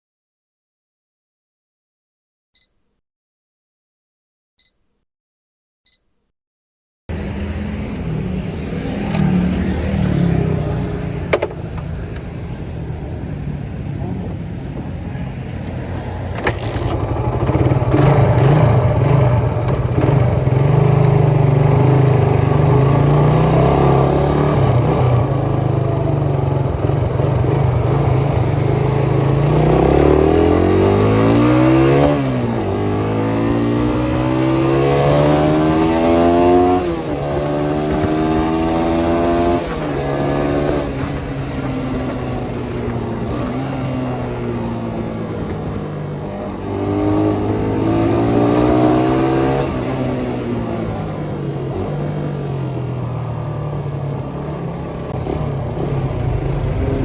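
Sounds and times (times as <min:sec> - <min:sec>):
motorcycle engine revving: 0:07.1 - 0:12.1, 0:16.1 - 0:57.0.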